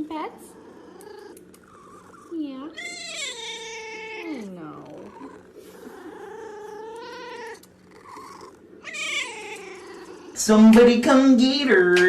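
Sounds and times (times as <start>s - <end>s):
cat meowing: 0.6s - 10.4s.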